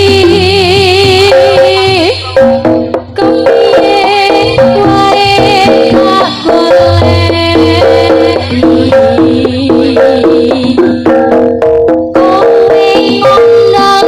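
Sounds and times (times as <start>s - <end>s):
hand drum beats: 0.0s - 14.0s
melody on pitched instruments: 1.3s - 14.0s.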